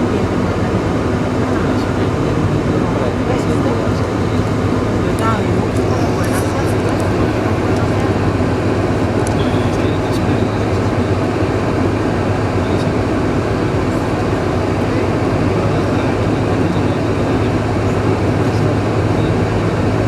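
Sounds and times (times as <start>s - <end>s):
jet engines idling in cabin: 0.0s - 20.0s.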